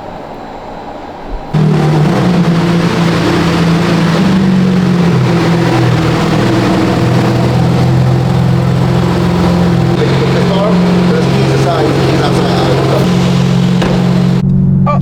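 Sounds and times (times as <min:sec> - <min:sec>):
car engine running loudly: 0:01.6 - 0:14.8.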